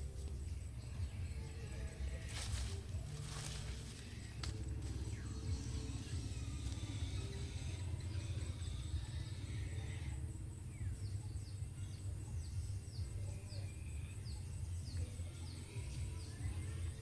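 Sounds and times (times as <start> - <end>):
low rumble: 0.0 - 16.2.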